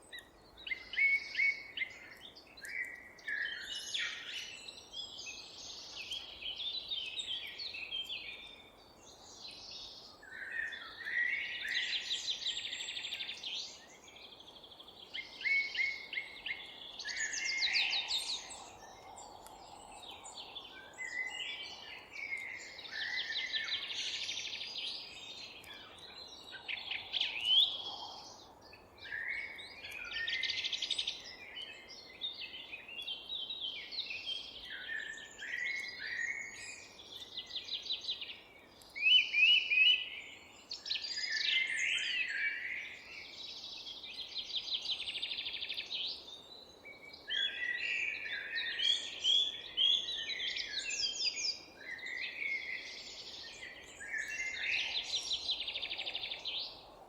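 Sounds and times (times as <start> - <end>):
faint low hiss: 0.0 - 57.0
songbirds chirping and trilling: 0.0 - 57.0.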